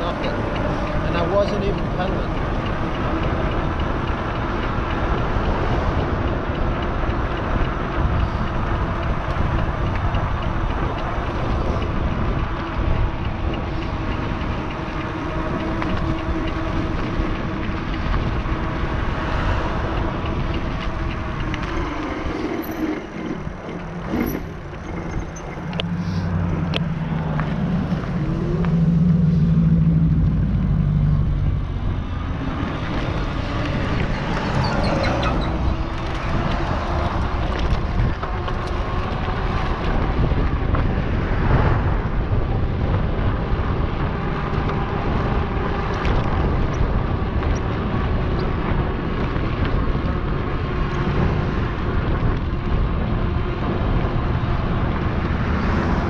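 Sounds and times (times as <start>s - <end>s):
wind and tyres rushing: 0.0s - 56.0s.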